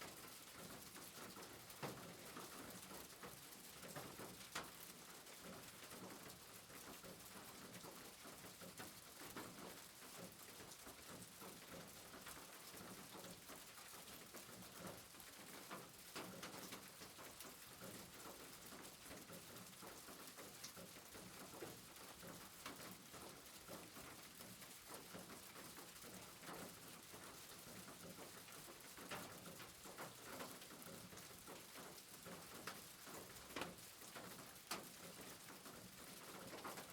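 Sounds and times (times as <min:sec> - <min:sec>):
rain patter: 0:00.0 - 0:36.9.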